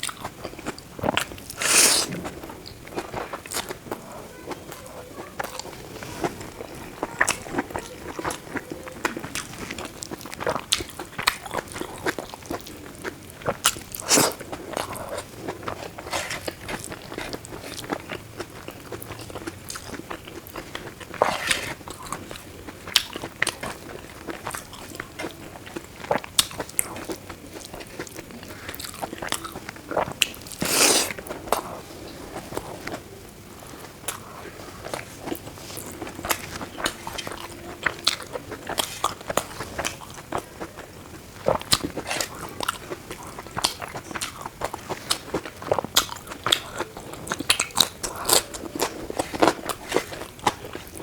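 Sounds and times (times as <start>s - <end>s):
food crunching: 0.0s - 51.0s
person chewing food: 0.0s - 51.0s.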